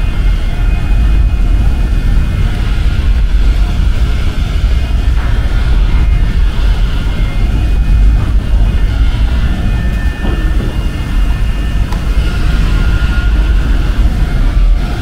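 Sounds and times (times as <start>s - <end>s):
ventilation low roar: 0.0s - 15.0s.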